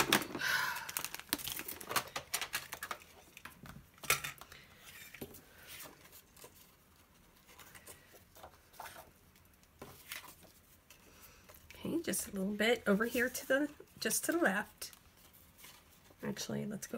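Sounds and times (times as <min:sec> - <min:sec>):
paper and plastic sleeve rustling: 0:00.0 - 0:16.5.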